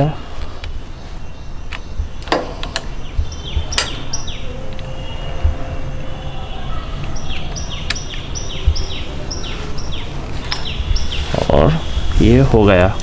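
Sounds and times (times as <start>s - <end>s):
steady low rumble: 0.0s - 13.0s
bird singing high notes: 1.0s - 12.6s.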